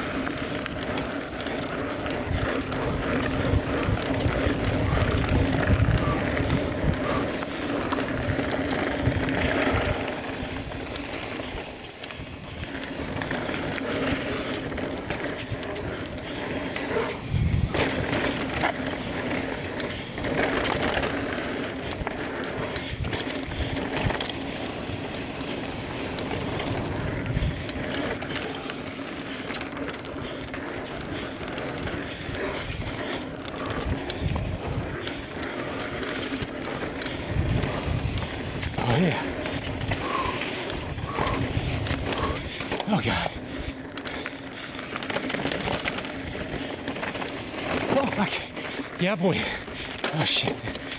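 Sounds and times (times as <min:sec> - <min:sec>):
bike rolling and rattling: 0:00.0 - 0:50.9.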